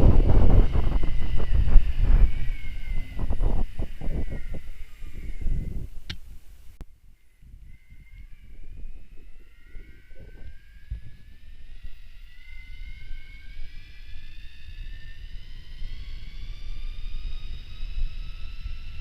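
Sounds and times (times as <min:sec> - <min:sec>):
electric bike motor whining: 0:00.0 - 0:06.2, 0:07.6 - 0:19.0
wind and rolling rumble: 0:00.0 - 0:19.0.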